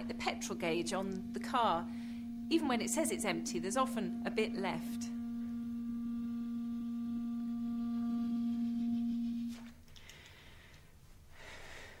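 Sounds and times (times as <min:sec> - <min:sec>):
clarinet long note: 0:00.0 - 0:09.8.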